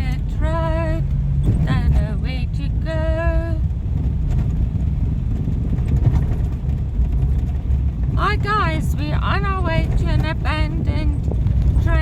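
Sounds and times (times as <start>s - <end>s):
car rumbling over dirt road: 0.0s - 12.0s.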